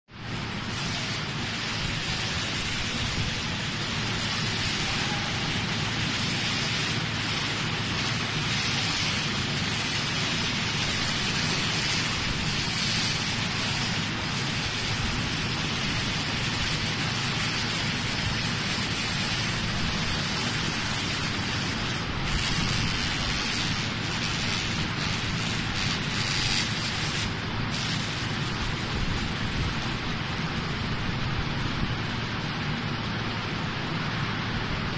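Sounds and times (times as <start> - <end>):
laser ablating rust crackling hiss: 0.2 - 34.9.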